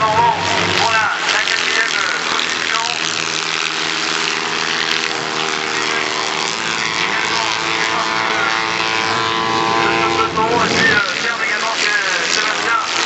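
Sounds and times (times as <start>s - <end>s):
crowd voices: 0.0s - 3.7s, 4.9s - 12.8s
racing car engines revving: 0.0s - 13.0s.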